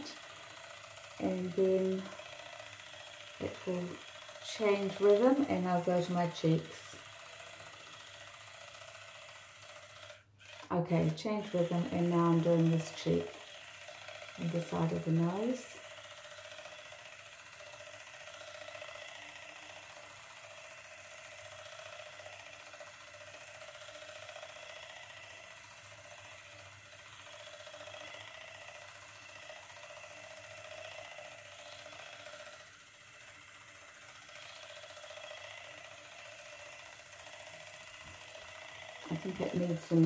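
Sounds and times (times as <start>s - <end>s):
facial brush motor buzzing: 0.0s - 40.0s.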